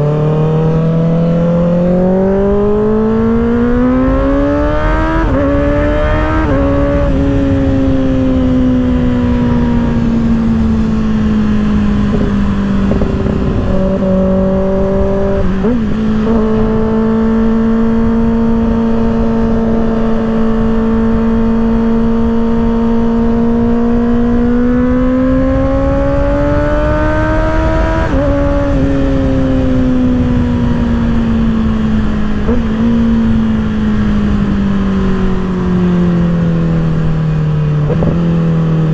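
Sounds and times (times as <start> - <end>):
motorcycle engine upshifting: 0.0 - 38.9
wind rush: 0.0 - 38.9.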